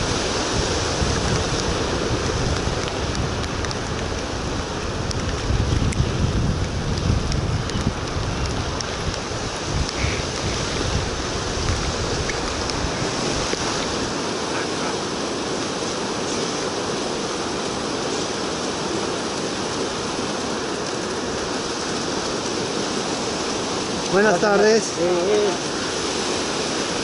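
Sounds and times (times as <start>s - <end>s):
rain and wind rushing: 0.0s - 27.0s
wind buffeting microphone: 0.0s - 27.0s.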